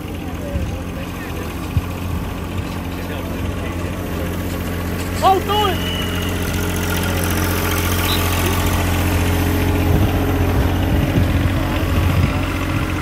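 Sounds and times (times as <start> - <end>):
engine idling hum: 0.0 - 13.0
uneven low rumbling: 0.0 - 13.0.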